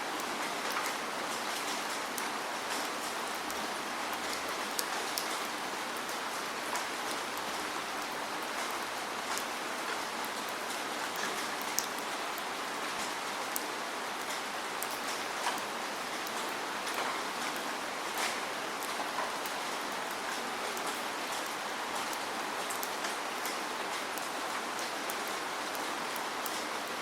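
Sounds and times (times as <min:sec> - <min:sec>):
steady rain: 0:00.0 - 0:27.0
close raindrops landing: 0:00.2 - 0:27.0.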